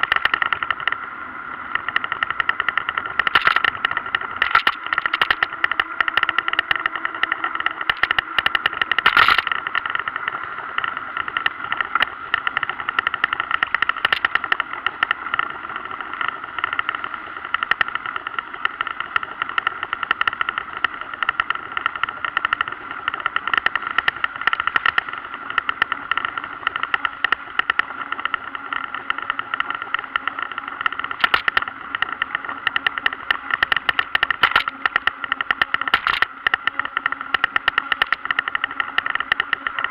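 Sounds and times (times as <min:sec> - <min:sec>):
camera rattling buzz: 0:00.0 - 0:01.0, 0:01.7 - 0:39.9.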